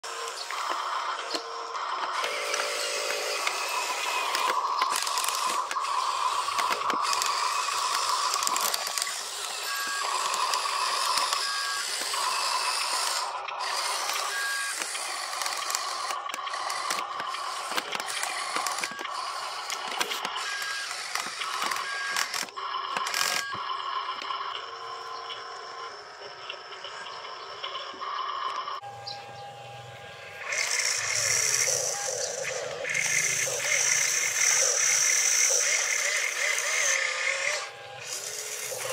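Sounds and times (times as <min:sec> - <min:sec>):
gears grinding: 0:00.0 - 0:38.9
small electric motors whining: 0:00.0 - 0:38.9.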